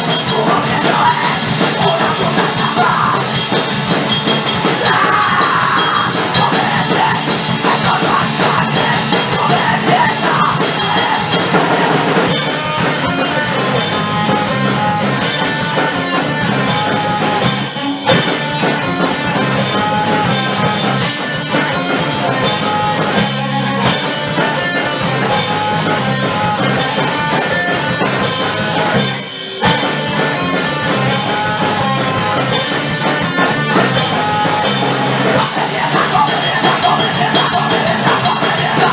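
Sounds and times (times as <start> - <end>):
distorted electric guitar: 0.0 - 38.9
drum kit: 0.0 - 38.9.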